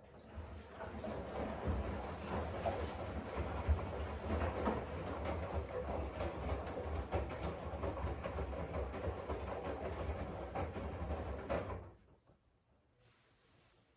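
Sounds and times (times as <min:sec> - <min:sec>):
washing machine humming and knocking: 0:00.0 - 0:12.2.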